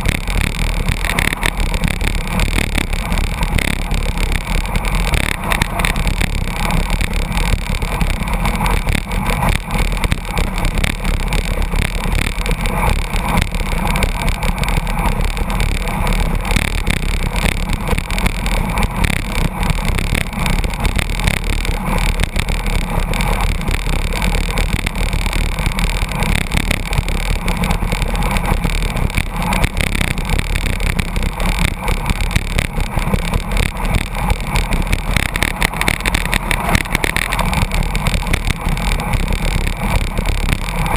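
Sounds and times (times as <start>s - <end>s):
road and engine rumble: 0.0s - 40.9s
wind rushing over microphone: 0.0s - 40.9s.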